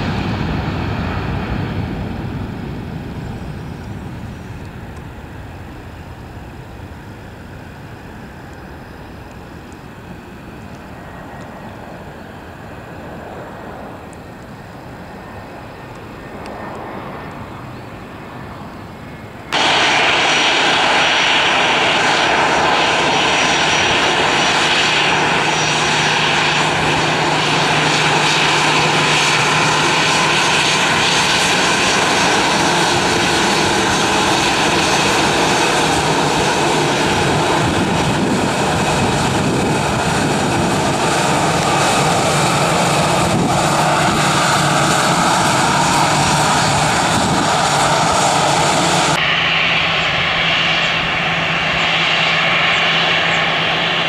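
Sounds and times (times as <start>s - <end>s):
distant jet engine: 0.0s - 54.0s
loud jet engine hiss: 0.0s - 54.0s.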